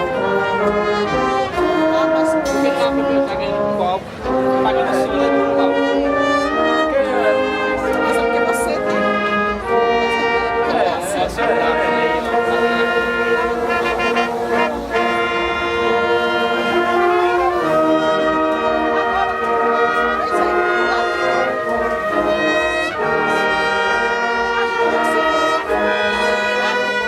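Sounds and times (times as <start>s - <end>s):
brass orchestra playing chords: 0.0s - 27.0s.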